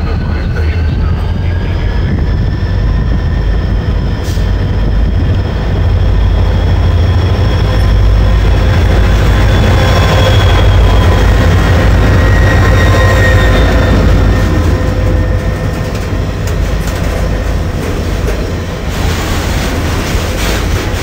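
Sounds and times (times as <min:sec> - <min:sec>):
high whine: 0:00.0 - 0:21.0
locomotive engine rumble: 0:00.0 - 0:21.0.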